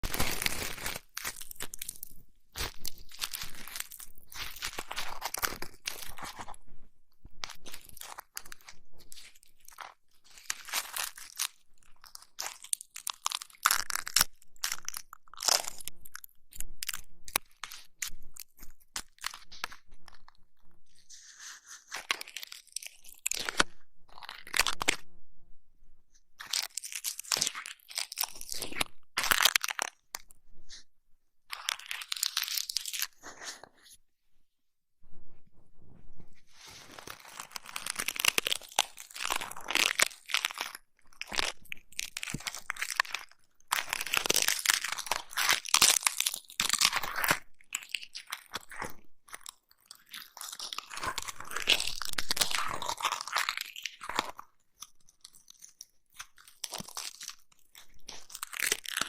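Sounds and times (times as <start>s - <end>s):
crunching and crackling on microphone: 0.0s - 25.2s, 26.1s - 30.9s, 31.5s - 34.0s, 35.0s - 59.0s.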